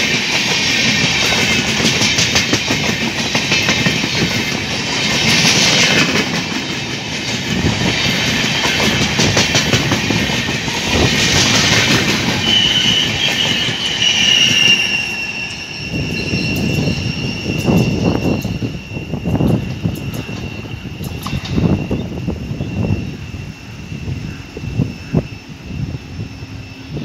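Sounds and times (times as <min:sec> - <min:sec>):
train coaches rushing past: 0:00.0 - 0:27.0
high steady whine: 0:00.8 - 0:27.0.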